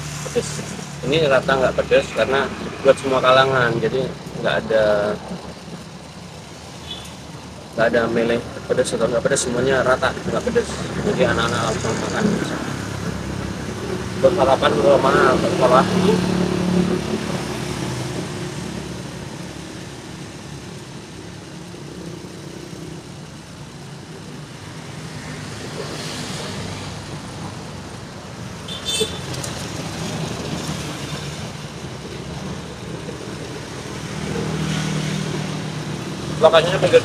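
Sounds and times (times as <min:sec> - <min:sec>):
cars and motorbikes passing: 0:00.0 - 0:37.0.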